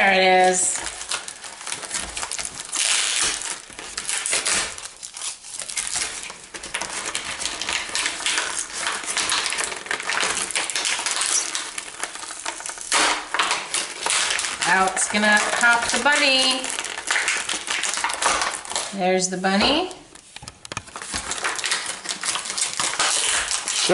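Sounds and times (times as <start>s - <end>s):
plastic packaging crinkling: 0.0s - 23.9s.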